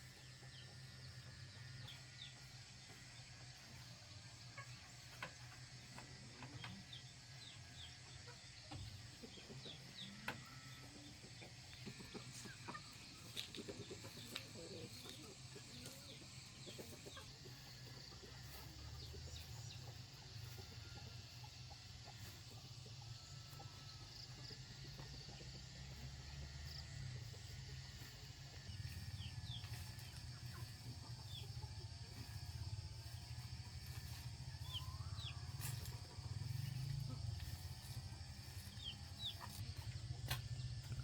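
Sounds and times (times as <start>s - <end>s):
chickens clucking: 0.0s - 41.0s
small birds chirping: 4.4s - 41.0s.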